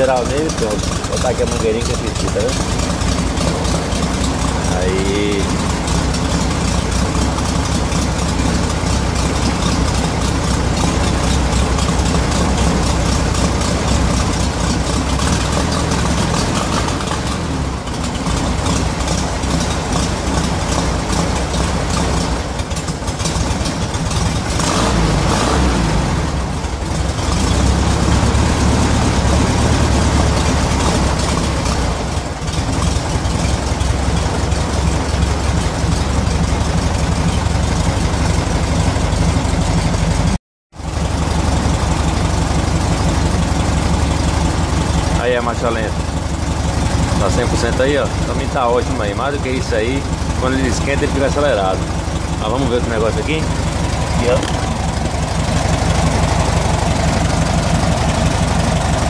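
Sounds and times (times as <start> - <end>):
car engine idling fast: 0.0 - 59.0.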